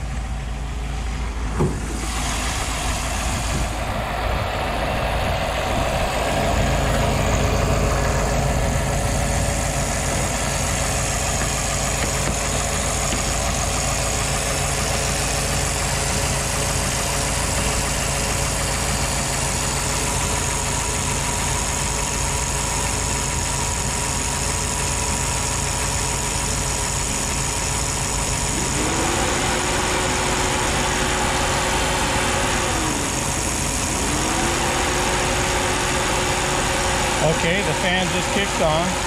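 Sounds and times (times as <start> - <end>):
car engine idling: 0.0 - 39.0
electric cooling fan whining: 0.0 - 39.0.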